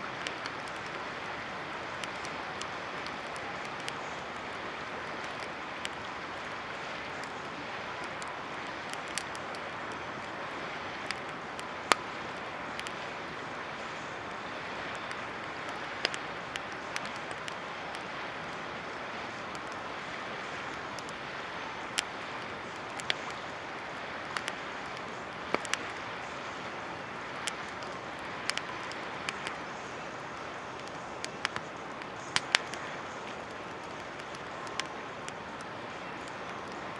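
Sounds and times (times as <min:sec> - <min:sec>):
campfire crackling and popping: 0:00.0 - 0:36.9
fire hissing: 0:00.1 - 0:36.9.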